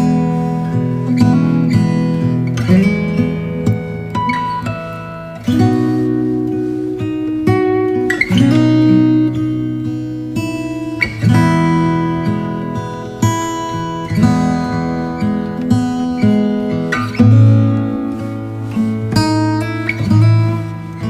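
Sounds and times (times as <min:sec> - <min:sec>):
acoustic guitar chords: 0:00.0 - 0:21.0.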